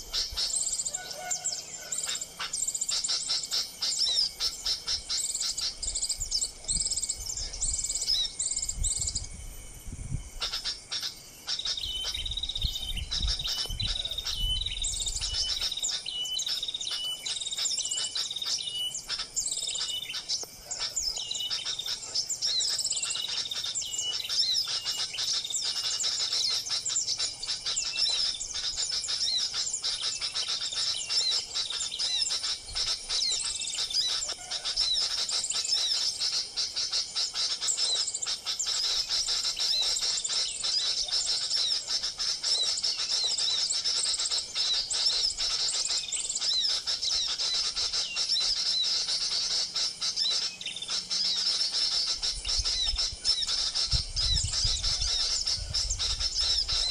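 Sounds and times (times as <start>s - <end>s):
small birds chirping and twittering: 0.0s - 56.9s.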